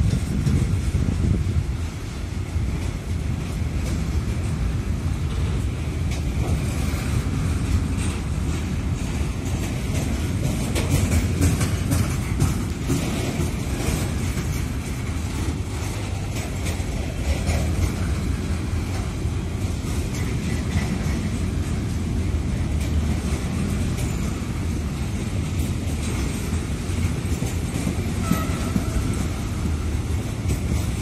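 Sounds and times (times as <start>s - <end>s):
wheels clicking and clattering: 0.0s - 2.0s, 2.6s - 31.0s
freight train rumbling past: 0.0s - 31.0s.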